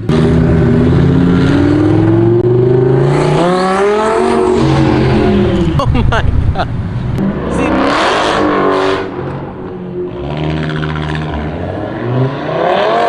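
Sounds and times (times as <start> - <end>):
sports car engines revving: 0.0 - 13.0.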